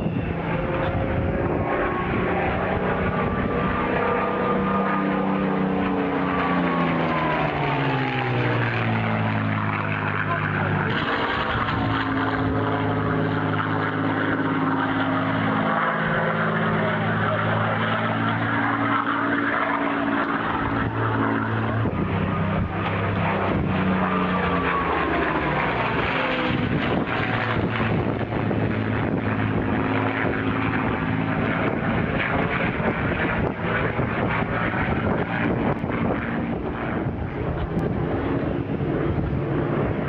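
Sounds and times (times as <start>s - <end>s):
propeller plane engine passing: 0.0s - 40.0s.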